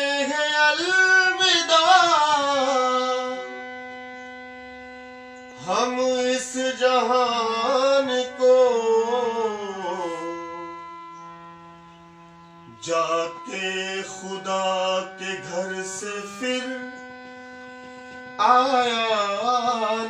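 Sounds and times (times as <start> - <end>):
man singing wordless melody: 0.0 - 4.1, 5.5 - 11.0, 12.6 - 20.0
harmonium chords: 0.0 - 20.0.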